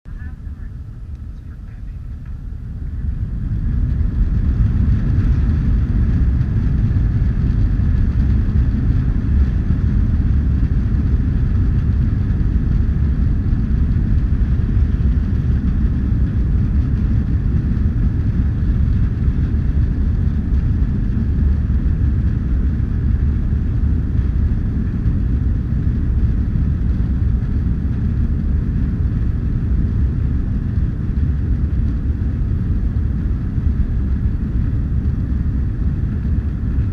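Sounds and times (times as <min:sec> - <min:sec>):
faint steady whine: 0:00.1 - 0:36.9
jet engines rumbling: 0:00.1 - 0:36.9.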